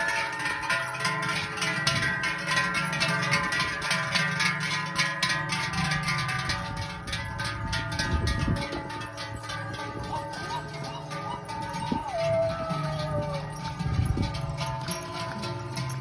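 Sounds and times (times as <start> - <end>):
cowbells ringing: 0.0 - 16.0.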